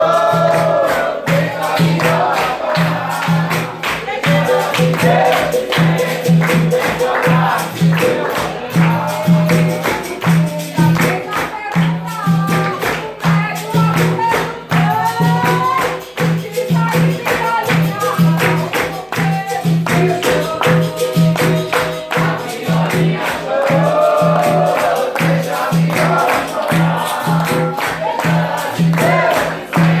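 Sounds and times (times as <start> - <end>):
person singing: 4.0 - 30.0.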